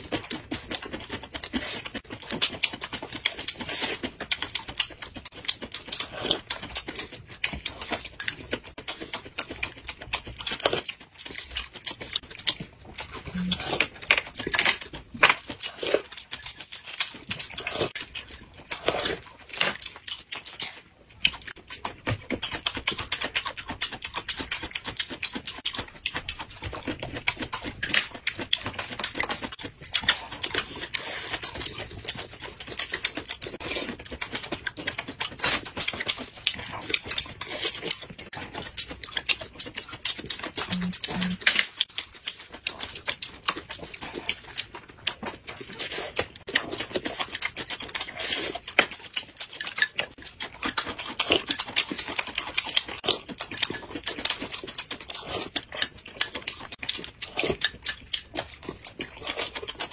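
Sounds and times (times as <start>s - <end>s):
crunching and wet chewing: 0.0s - 59.9s.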